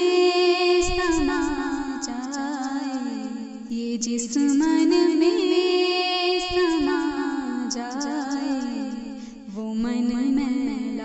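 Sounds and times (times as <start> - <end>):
solo voice singing devotional song: 0.0 - 11.0.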